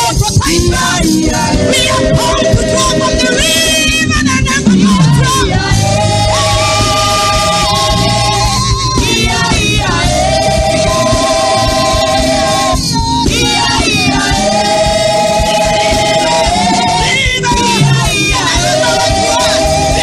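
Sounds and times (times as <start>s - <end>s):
choir singing: 0.0s - 3.9s, 4.6s - 20.0s
band accompaniment: 0.0s - 20.0s.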